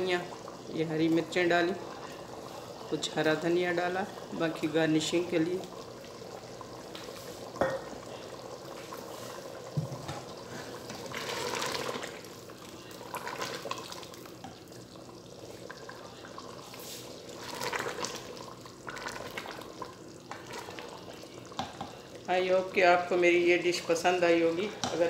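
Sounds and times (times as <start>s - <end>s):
liquid sloshing in pot: 0.2s - 22.2s.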